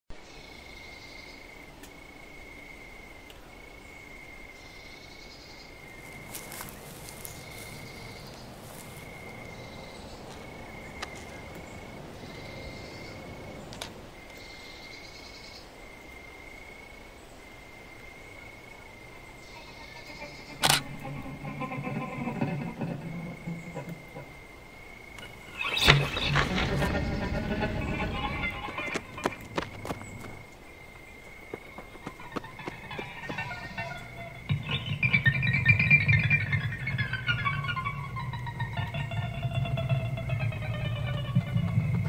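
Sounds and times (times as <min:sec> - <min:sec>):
crickets chirping: 0:00.1 - 0:42.0
faint night-time hiss: 0:00.1 - 0:42.0.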